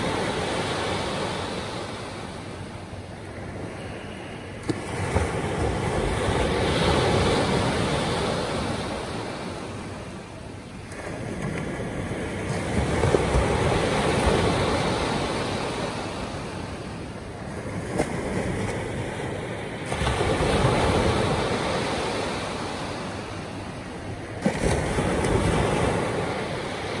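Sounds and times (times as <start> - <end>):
small waves washing up beach: 0.0 - 27.0.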